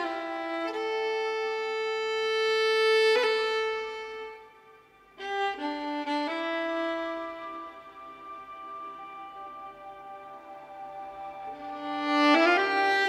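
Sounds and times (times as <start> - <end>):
violin playing long notes: 0.0 - 13.0.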